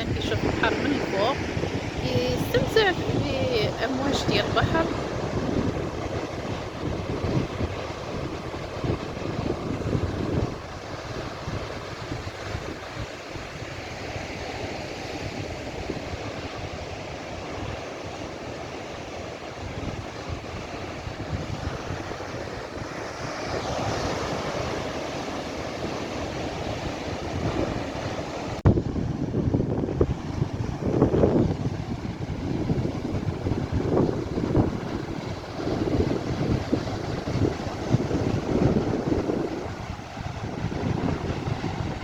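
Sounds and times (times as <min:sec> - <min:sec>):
wind buffeting microphone: 0:00.0 - 0:18.6, 0:19.6 - 0:42.0
sea waves breaking: 0:00.0 - 0:42.0.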